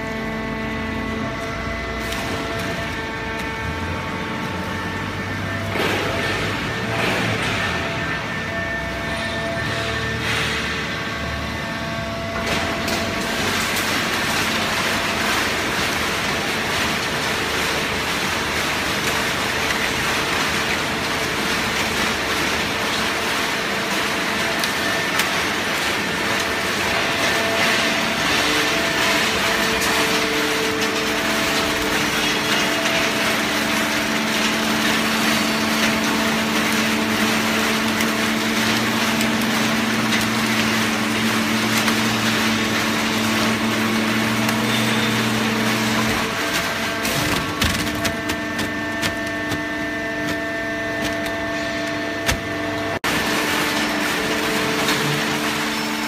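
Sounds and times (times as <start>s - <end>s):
hydraulic baling press running: 0.0s - 56.0s.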